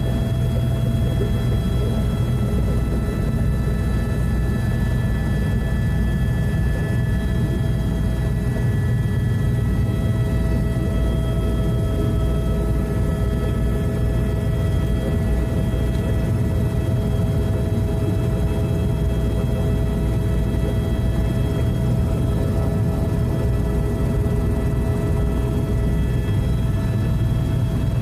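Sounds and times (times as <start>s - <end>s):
helicopter rotor and engine drone: 0.0s - 28.0s
turbine whine: 0.0s - 28.0s.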